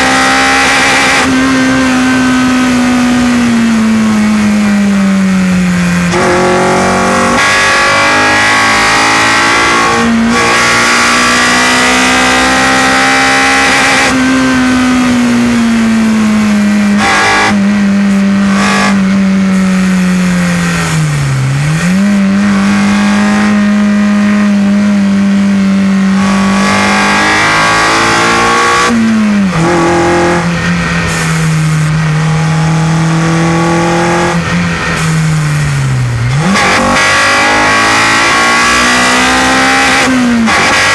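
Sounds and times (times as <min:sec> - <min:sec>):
car engine running hard: 0:00.0 - 0:40.9.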